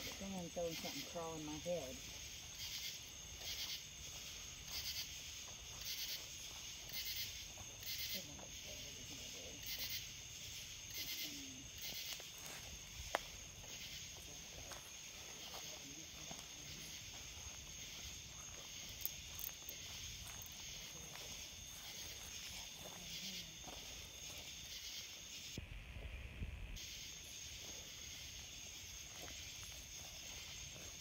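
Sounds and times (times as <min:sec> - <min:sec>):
night insects droning: 0:00.0 - 0:31.0.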